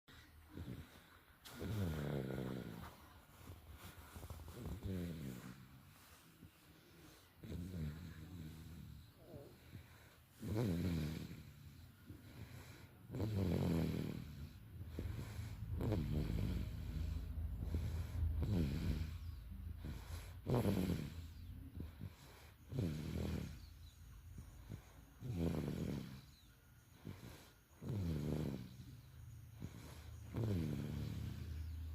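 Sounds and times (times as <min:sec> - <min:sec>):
baby snoring: 0:00.1 - 0:06.2, 0:07.0 - 0:31.9.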